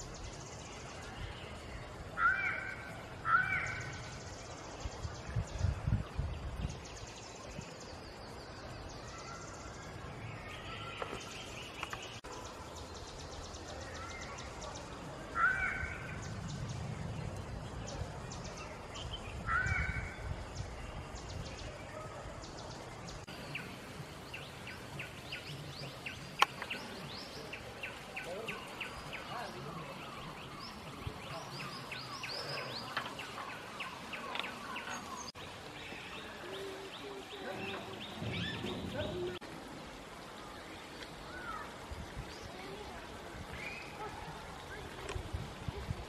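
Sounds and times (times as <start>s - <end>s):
birds calling: 0.0s - 5.8s, 6.4s - 42.7s.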